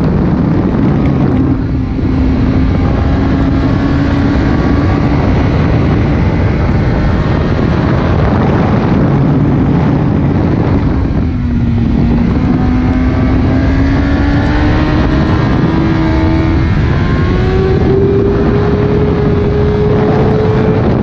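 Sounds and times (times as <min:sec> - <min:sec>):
motorcycle engine accelerating: 0:00.0 - 0:21.0
wind rush on microphone: 0:00.0 - 0:21.0.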